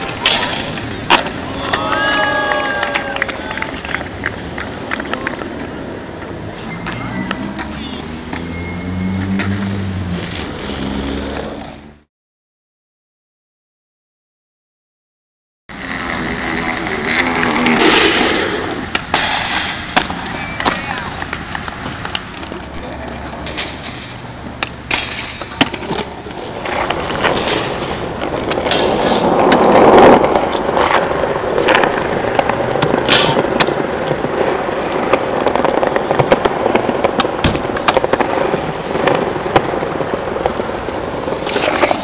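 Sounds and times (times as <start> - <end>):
skateboards clacking on ground: 0.0 - 11.8, 15.7 - 42.0
skateboard wheels rolling on concrete: 0.0 - 12.1, 15.7 - 42.0.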